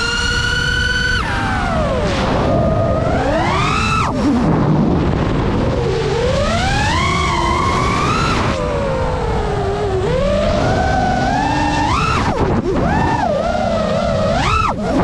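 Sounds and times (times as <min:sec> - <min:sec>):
drone motors and propellers whining: 0:00.0 - 0:15.0
steady rushing noise: 0:00.0 - 0:15.0.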